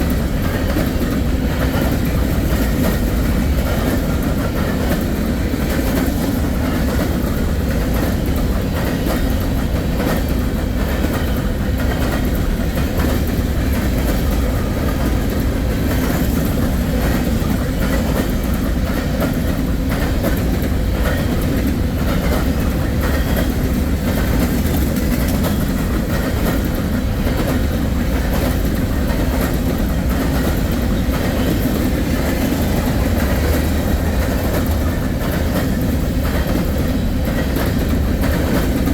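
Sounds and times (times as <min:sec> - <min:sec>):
freight train rolling past: 0:00.0 - 0:38.9.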